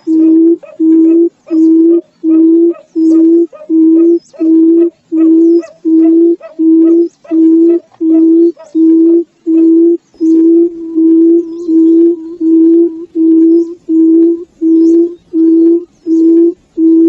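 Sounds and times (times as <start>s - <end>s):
bird low hooting calls: 0.0s - 17.0s.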